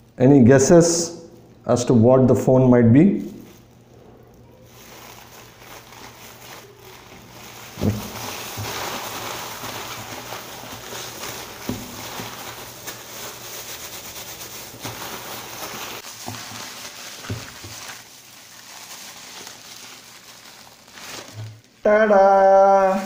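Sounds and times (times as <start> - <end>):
plastic bag crinkling: 0.0 - 21.8
plastic gloves rustling: 0.0 - 21.9.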